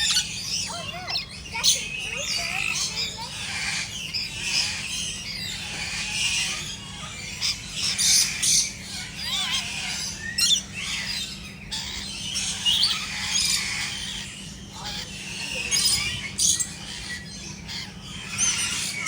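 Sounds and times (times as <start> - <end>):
birds chirping and squawking: 0.0 - 19.0.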